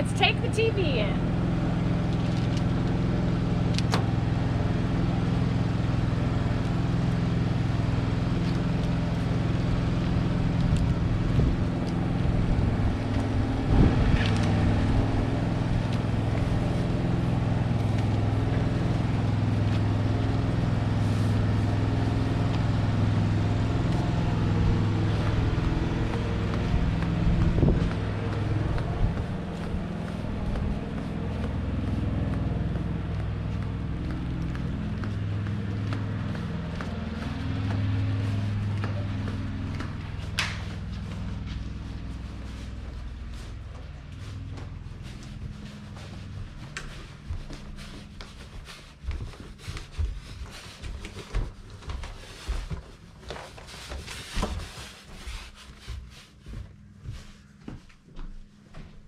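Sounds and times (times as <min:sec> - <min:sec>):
steady low hum: 0:00.0 - 0:59.0
sandal footsteps on concrete: 0:00.8 - 0:59.0.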